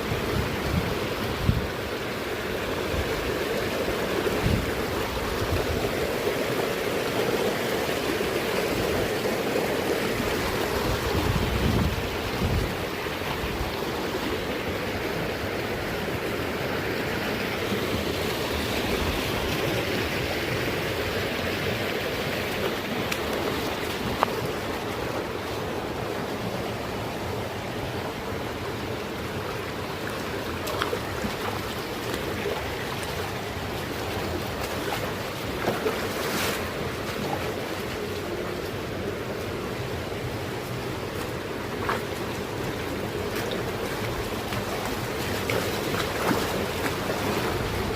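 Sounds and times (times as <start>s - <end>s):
mountain water rushing: 0.0s - 47.9s.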